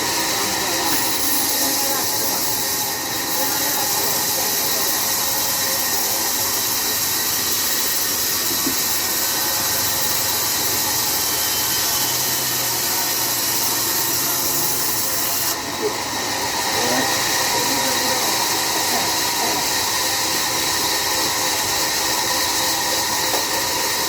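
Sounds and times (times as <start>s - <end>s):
band saw running: 0.0s - 24.0s.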